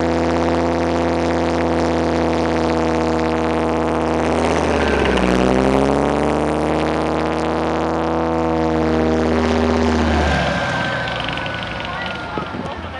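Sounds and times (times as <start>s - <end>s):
tracked vehicle engine under load: 0.0s - 12.9s.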